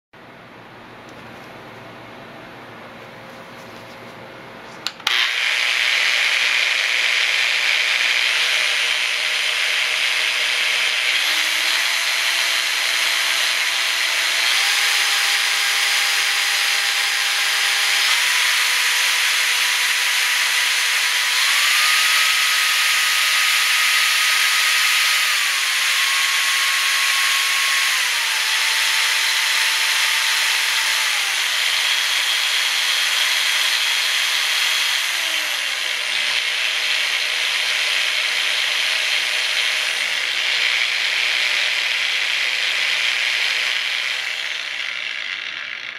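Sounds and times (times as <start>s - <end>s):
polisher motor whine: 4.9s - 45.9s.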